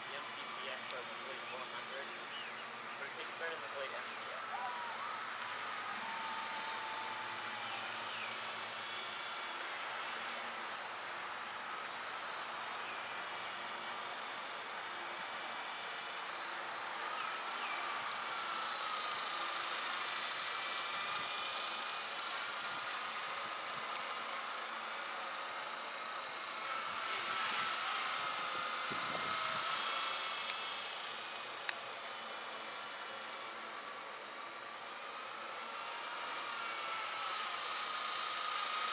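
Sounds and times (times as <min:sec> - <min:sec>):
rc helicopter whine: 0:00.0 - 0:38.9.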